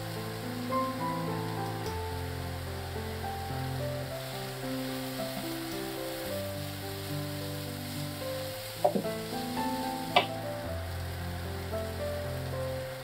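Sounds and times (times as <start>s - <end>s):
food sizzling in a frying pan: 0.0s - 13.0s
soft background music: 0.0s - 13.0s.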